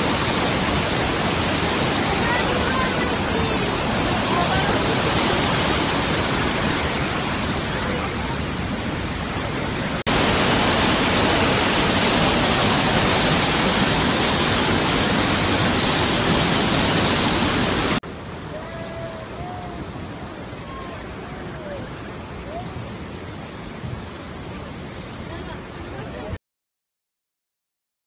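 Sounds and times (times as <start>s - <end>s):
waterfall rushing: 0.0s - 26.4s.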